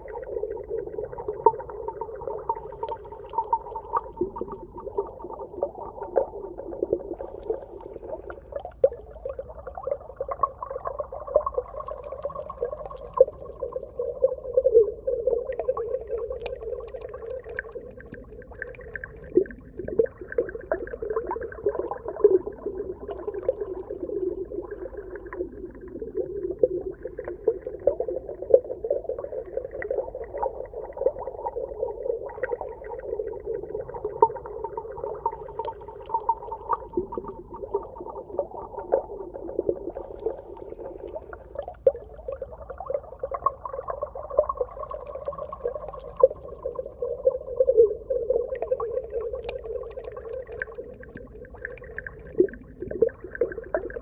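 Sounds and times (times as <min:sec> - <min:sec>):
small crackles and pops: 0:00.1 - 0:54.0.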